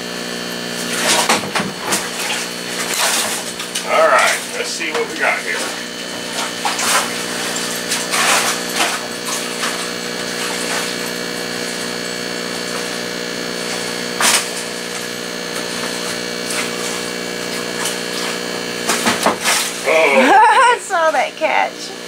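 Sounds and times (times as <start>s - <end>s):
fish tank pump humming: 0.0s - 22.0s
net splashing in water: 0.8s - 20.0s.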